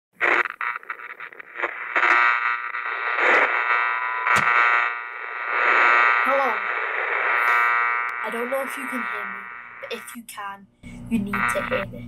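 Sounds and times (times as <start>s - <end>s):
sharp crackles: 0.2s - 10.2s
electronic buzzing and static: 0.2s - 12.0s.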